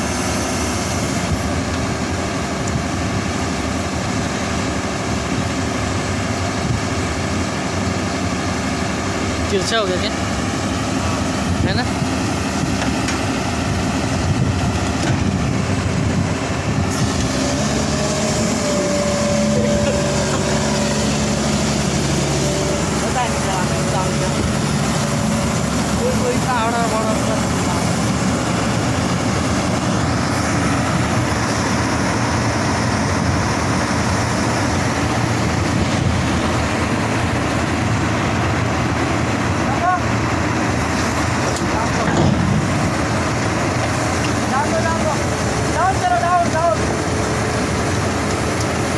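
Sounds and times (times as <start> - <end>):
excavator diesel engine running: 0.0 - 48.9
steady whine: 0.0 - 48.9
steel tracks clattering: 9.5 - 48.9.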